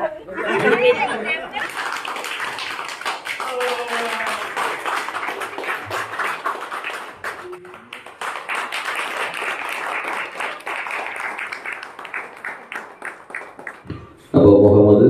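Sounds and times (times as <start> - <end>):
audience applauding: 1.6 - 13.9.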